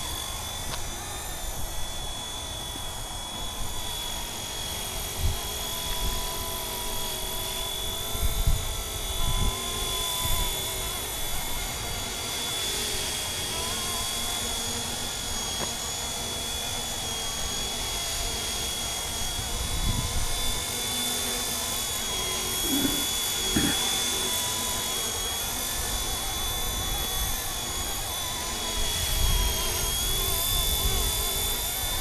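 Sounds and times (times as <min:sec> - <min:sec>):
model helicopter whine: 0:00.0 - 0:32.0.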